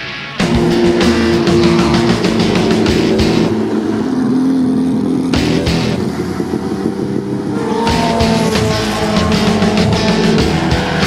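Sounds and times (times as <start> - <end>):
race car engine at speed: 0.0 - 11.0
rock music: 0.0 - 11.0.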